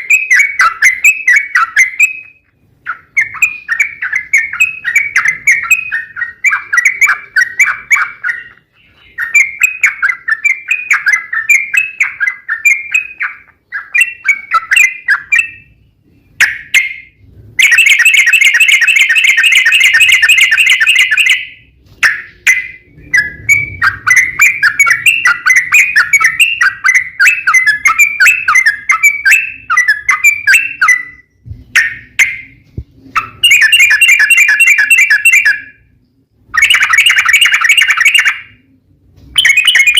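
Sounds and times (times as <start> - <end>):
bird rapid trill: 0.0 - 35.9, 36.5 - 38.6, 39.3 - 39.9
bird chattering song: 0.0 - 38.7, 39.3 - 39.9.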